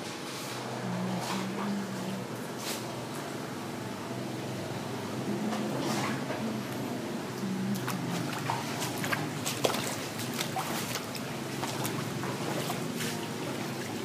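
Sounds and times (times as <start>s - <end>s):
steady low hum: 0.0s - 14.0s
water sloshing and splashing: 0.4s - 3.0s, 5.4s - 14.0s.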